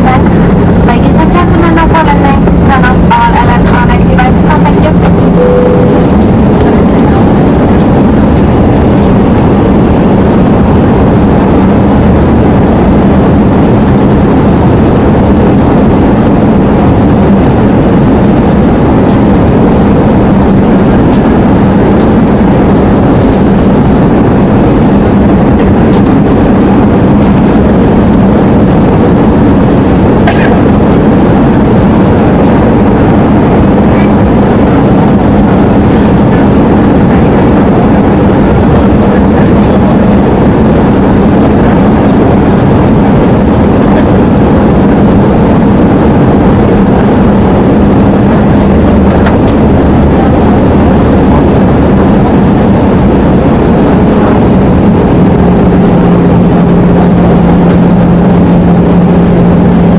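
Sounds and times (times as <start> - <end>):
jet engine and airflow rush: 0.0 - 59.9
low cabin hum: 0.0 - 59.9.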